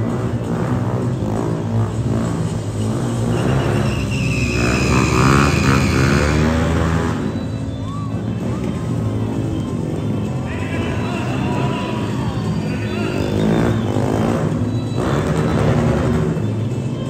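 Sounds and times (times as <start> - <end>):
motorcycle engines running: 0.0 - 17.0
music: 0.0 - 17.0.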